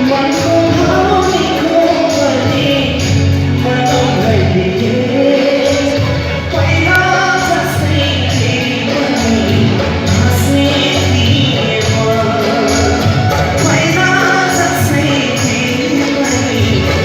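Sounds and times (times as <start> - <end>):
bass line: 0.0 - 17.0
person singing: 0.0 - 17.0.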